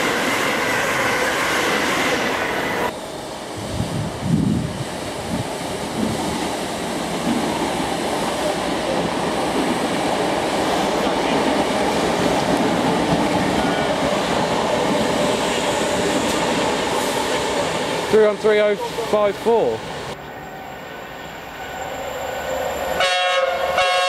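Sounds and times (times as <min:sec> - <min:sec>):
train wheels rumbling on rails: 0:00.0 - 0:23.8.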